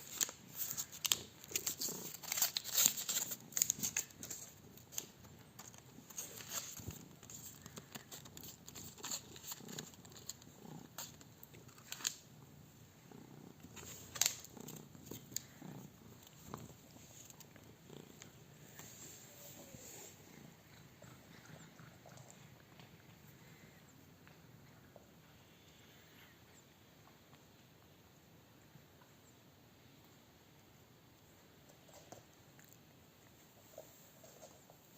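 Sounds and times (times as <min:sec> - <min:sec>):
cat purring softly: 0:00.0 - 0:29.1.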